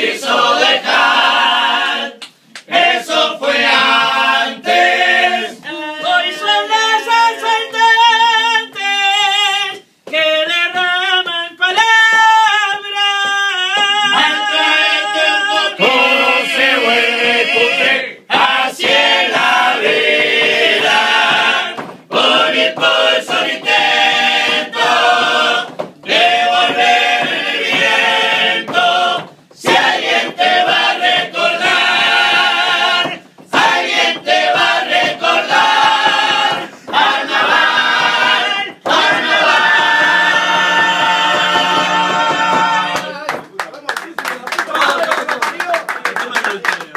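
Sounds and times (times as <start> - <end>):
choir singing a cappella: 0.0 - 11.3, 13.8 - 43.2.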